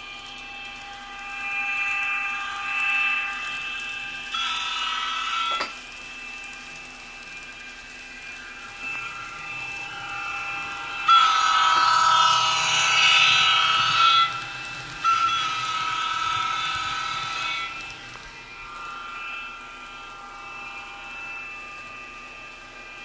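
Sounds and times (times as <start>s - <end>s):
electric locomotive running sound: 0.0s - 23.0s.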